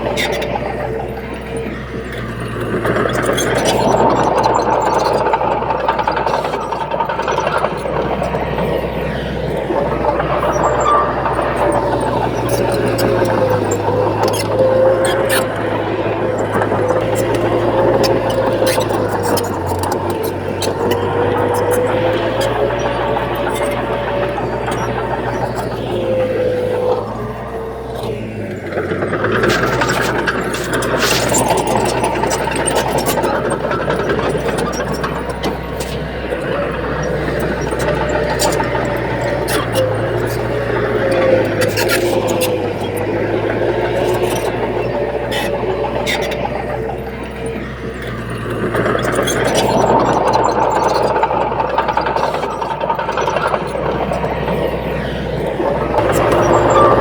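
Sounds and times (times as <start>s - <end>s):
heavy diesel machinery running: 0.0s - 57.0s
sharp clicks and clanks: 0.0s - 57.0s.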